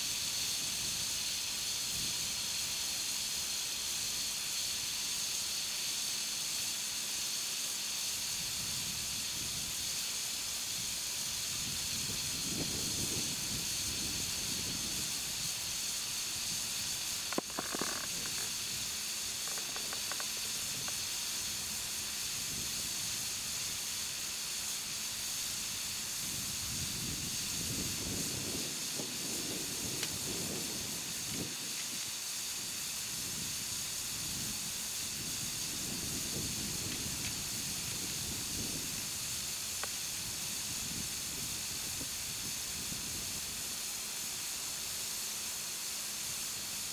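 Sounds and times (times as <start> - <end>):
air hissing from tire: 0.0 - 46.9.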